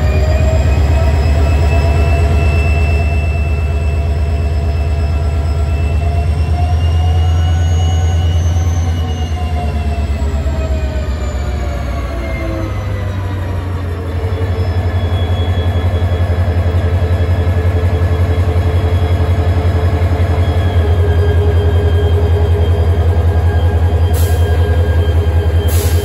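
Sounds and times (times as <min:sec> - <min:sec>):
diesel locomotive engine throbbing: 0:00.0 - 0:26.0.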